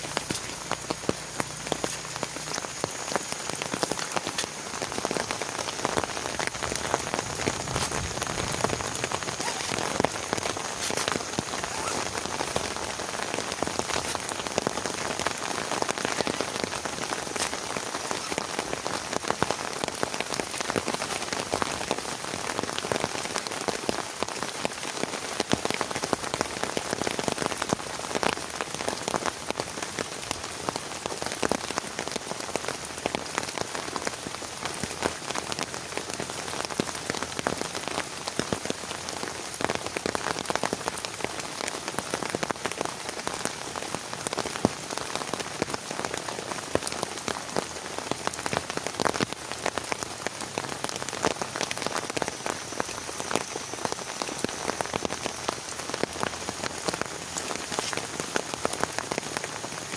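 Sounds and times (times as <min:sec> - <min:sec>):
heavy rain on a surface: 0:00.0 - 0:59.9.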